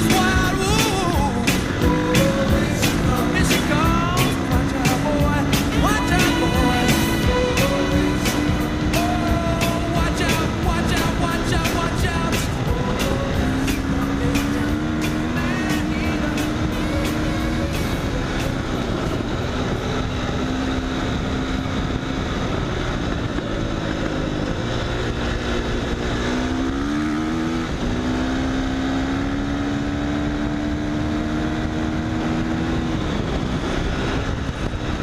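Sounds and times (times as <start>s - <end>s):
heavy rush of noise: 0.0s - 35.0s
motorcycle engine under throttle: 0.0s - 35.0s.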